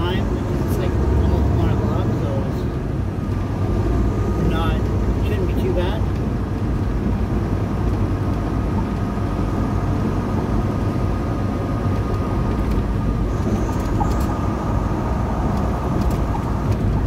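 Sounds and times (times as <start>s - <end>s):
truck engine and road drone: 0.0s - 17.0s.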